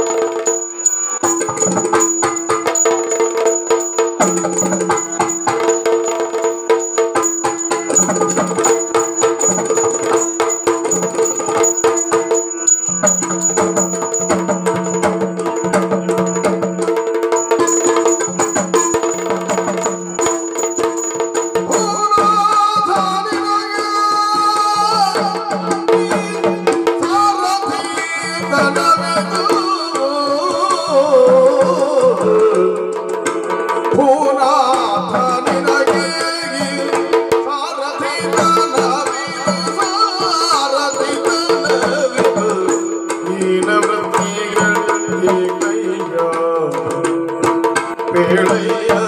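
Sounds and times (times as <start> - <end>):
drums beaten with sticks: 0.0 - 49.0.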